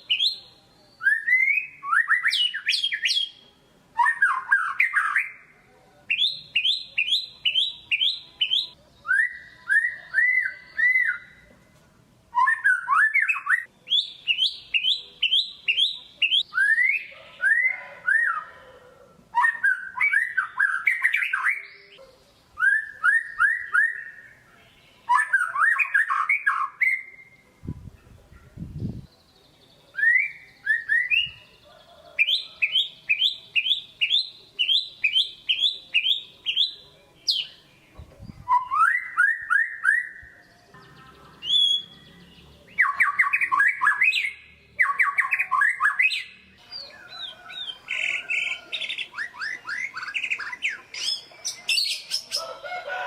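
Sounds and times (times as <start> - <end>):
songbird singing whistled phrases: 0.0 - 3.4, 4.0 - 5.5, 6.1 - 11.4, 12.3 - 18.5, 19.3 - 27.4, 28.8 - 31.6, 32.2 - 40.6, 41.3 - 52.4.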